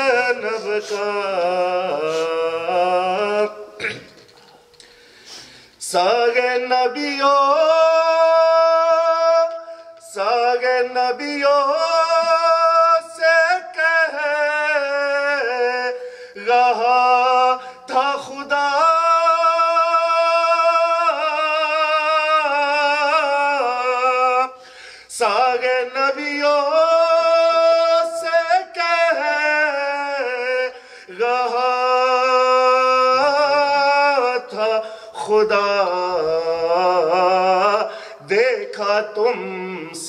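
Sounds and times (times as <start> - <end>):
man singing unaccompanied: 0.0 - 4.3, 5.8 - 40.0.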